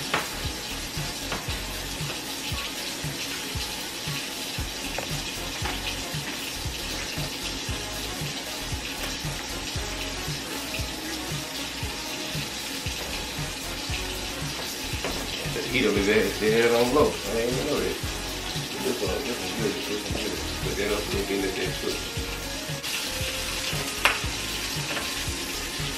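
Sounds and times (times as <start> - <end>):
background music with low beat: 0.0 - 25.9
food sizzling in pans: 0.0 - 25.9.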